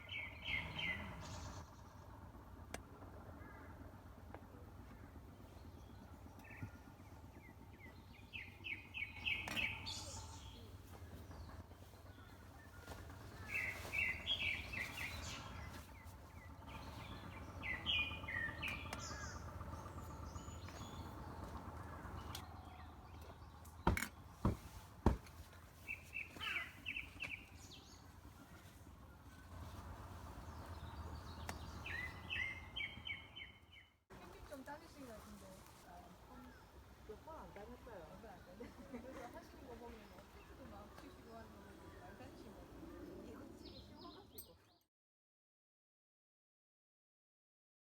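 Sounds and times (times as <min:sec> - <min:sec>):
birds chirping: 0:00.0 - 0:02.3, 0:03.3 - 0:44.8
low outdoor background: 0:00.0 - 0:44.9.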